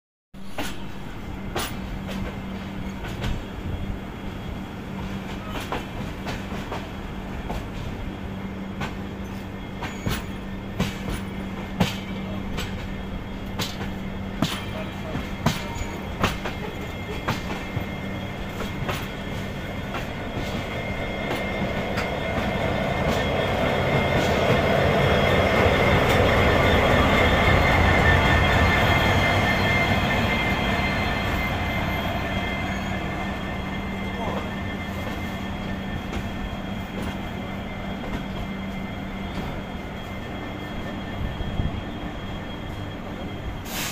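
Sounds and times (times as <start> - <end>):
train wheels clicking over rail joints: 0.4 - 3.6, 5.0 - 8.1, 8.7 - 39.9
diesel locomotive engine rumble: 0.4 - 43.9.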